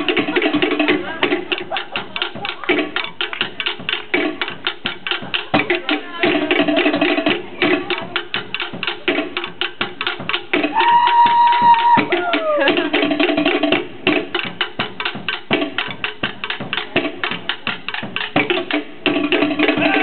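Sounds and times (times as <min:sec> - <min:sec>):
deep drum tones: 0:00.0 - 0:20.0
slit-log drums striking: 0:00.0 - 0:20.0.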